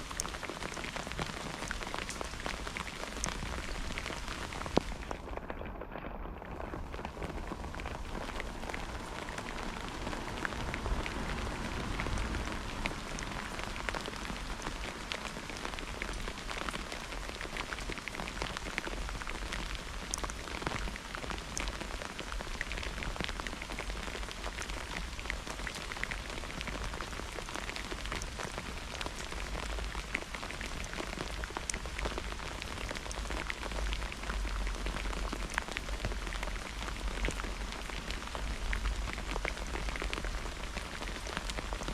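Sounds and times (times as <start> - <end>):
rain hiss: 0.0 - 5.5, 6.6 - 41.9
rain drops striking: 0.0 - 41.9.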